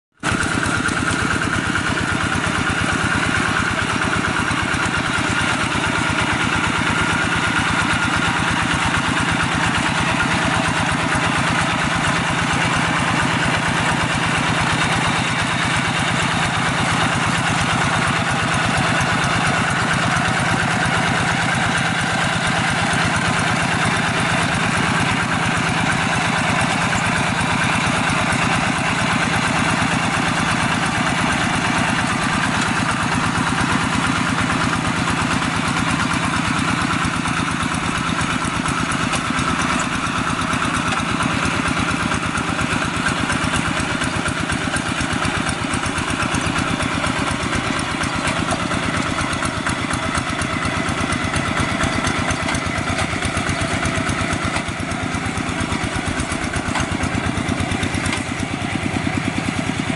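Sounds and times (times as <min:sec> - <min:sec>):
diesel engine running: 0:00.1 - 0:59.9.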